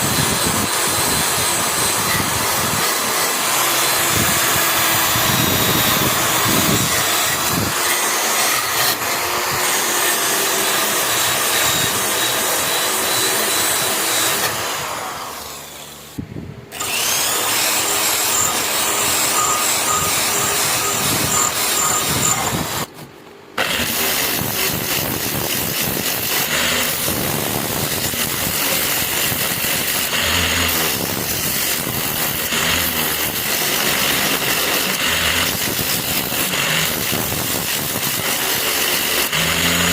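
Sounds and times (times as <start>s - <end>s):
power tool stripping rust from metal: 0.0s - 23.0s, 23.6s - 39.9s.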